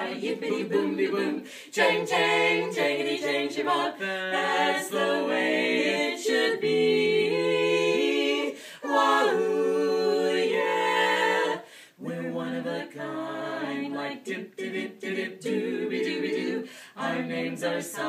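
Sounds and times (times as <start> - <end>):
women singing a cappella doo-wop: 0.0 - 18.0.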